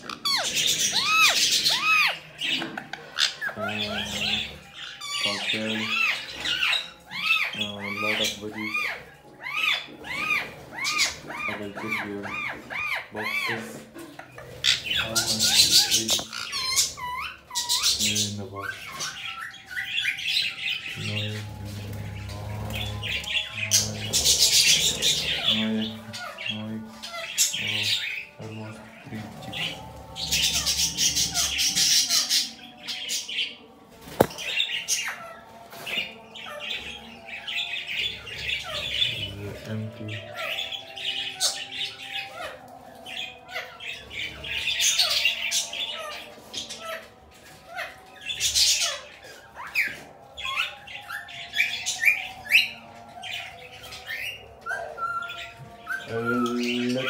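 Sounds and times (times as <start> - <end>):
budgerigar chicks squawking: 0.0 - 57.0.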